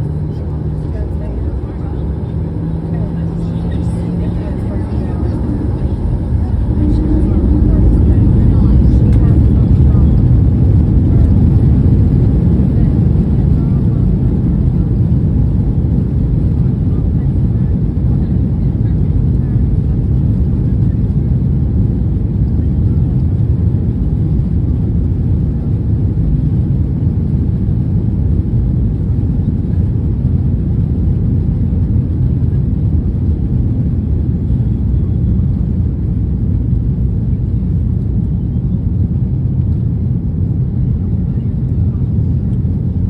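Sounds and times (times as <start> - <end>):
jet engines low rumble: 0.0 - 43.0.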